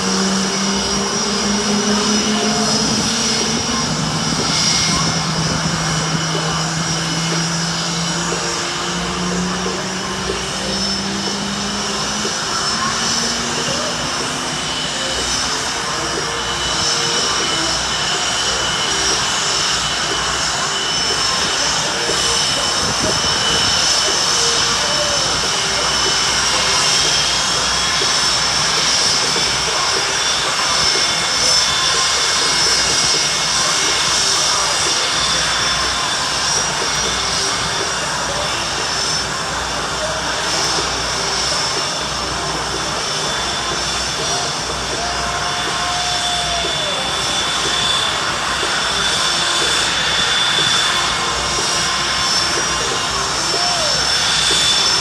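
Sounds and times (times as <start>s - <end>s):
aircraft engine running: 0.0s - 55.0s
tone dropping in pitch: 0.0s - 55.0s.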